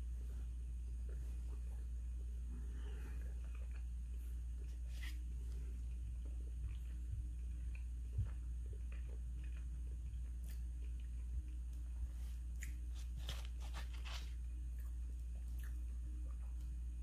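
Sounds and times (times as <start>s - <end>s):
steady low hum: 0.0s - 17.0s
person chewing: 0.4s - 16.8s.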